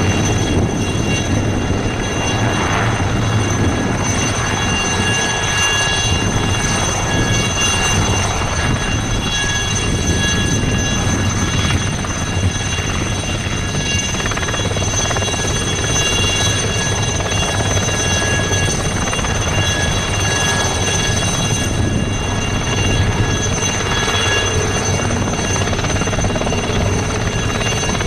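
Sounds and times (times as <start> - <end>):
helicopter rotor beat: 0.0 - 28.0
helicopter turbine whine: 0.0 - 28.0.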